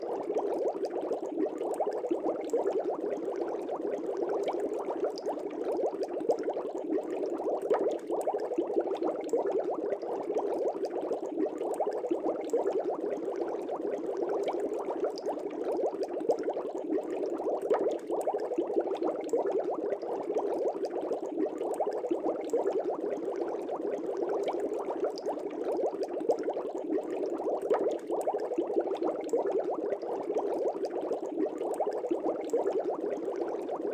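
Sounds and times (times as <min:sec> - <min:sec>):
air bubbling through water: 0:00.0 - 0:33.9.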